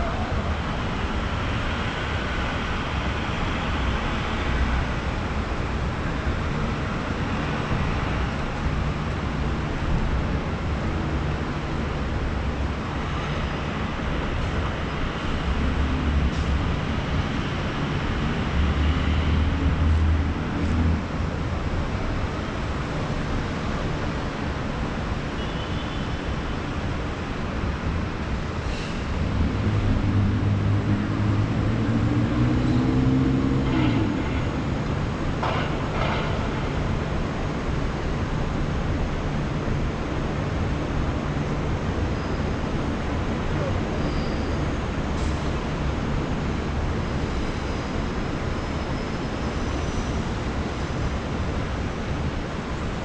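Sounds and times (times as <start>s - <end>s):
heavy vehicles passing: 0.0s - 53.0s
traffic roar: 0.0s - 53.0s.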